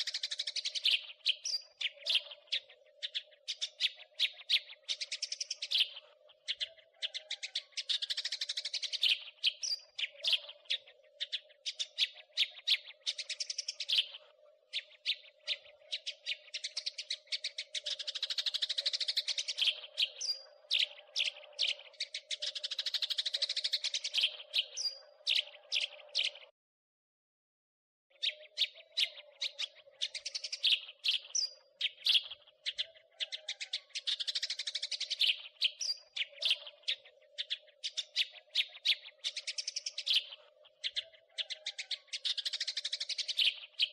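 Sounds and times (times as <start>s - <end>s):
sparrows chirping: 0.0s - 26.5s, 28.1s - 43.9s.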